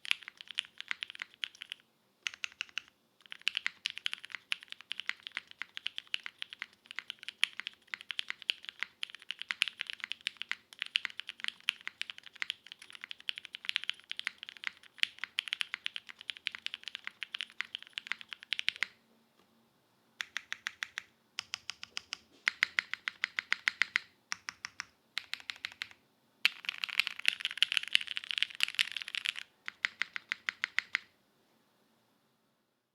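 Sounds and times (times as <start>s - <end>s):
mechanical keyboard typing: 0.0s - 19.0s, 20.2s - 31.1s.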